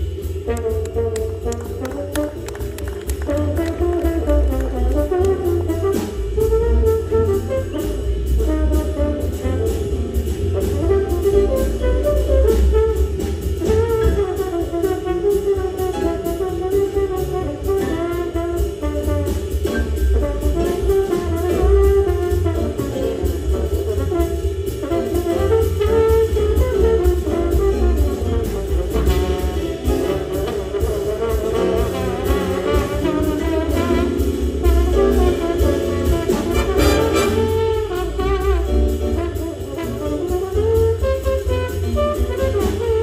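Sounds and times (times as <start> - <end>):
jazz big band playing: 0.0 - 43.0.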